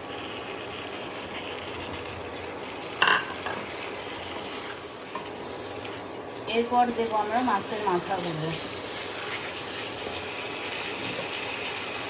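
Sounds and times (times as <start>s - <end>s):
food sizzling in a pan: 0.0s - 12.0s
loud burst of sizzle: 0.0s - 12.0s.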